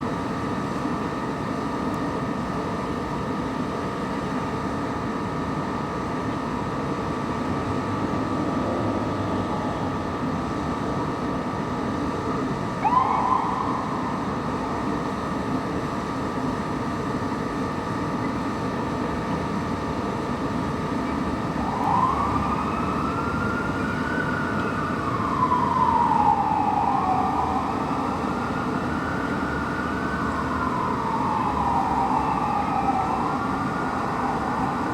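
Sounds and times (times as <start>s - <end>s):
fire engine siren wailing: 0.0s - 34.9s
traffic: 0.0s - 34.9s.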